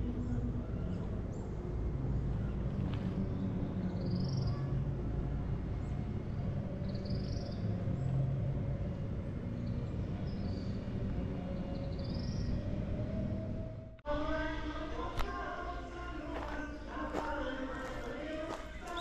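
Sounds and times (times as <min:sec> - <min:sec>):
birds chirping: 0:00.0 - 0:13.5, 0:15.2 - 0:19.0.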